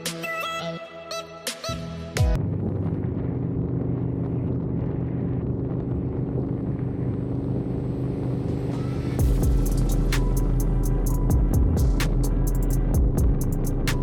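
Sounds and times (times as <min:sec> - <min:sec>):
road and wind noise: 0:02.4 - 0:14.0.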